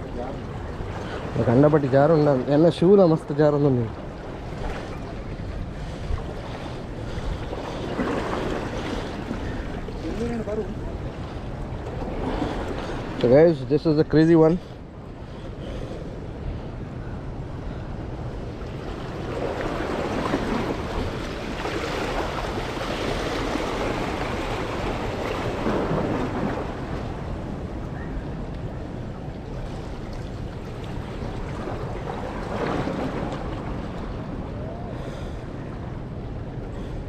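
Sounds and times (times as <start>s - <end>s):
sea waves against rocks: 0.0s - 37.0s
wind rumbling on microphone: 0.0s - 37.0s.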